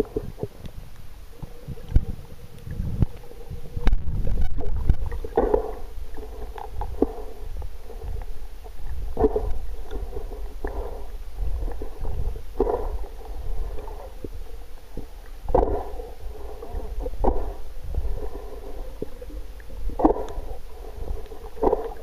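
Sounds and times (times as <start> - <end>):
underwater water rumble: 0.0 - 22.0
water gurgling: 0.0 - 22.0.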